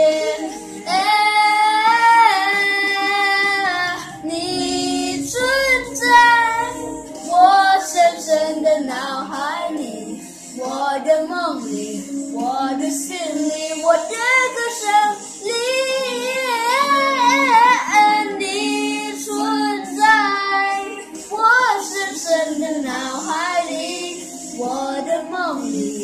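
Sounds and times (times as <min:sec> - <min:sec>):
boy singing pop ballad: 0:00.0 - 0:26.0.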